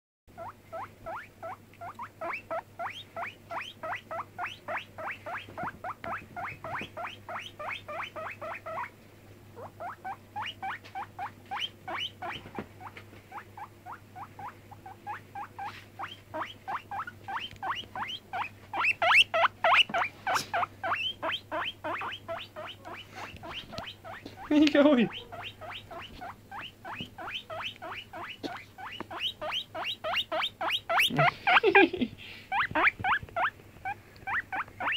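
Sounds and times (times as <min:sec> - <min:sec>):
guinea pig squeaking: 0:00.3 - 0:09.0, 0:09.6 - 0:31.8, 0:32.5 - 0:34.9.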